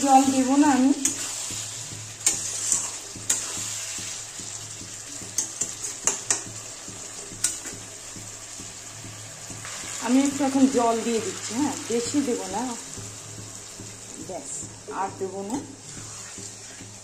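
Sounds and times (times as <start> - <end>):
curry sizzling in oil: 0.0 - 17.0.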